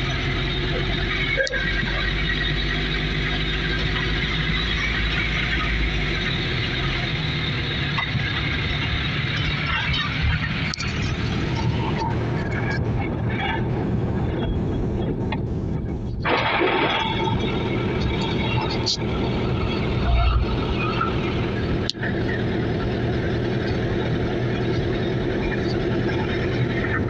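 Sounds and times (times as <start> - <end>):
car engine: 0.0 - 27.0
road noise inside car: 0.0 - 27.0.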